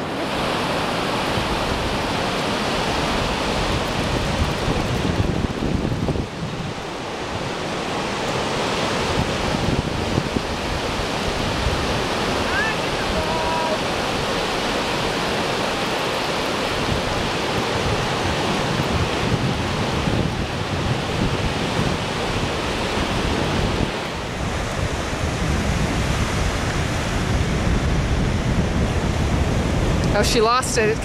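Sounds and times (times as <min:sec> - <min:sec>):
ocean surf breaking: 0:00.0 - 0:31.0
wind rumbling on microphone: 0:00.0 - 0:31.0.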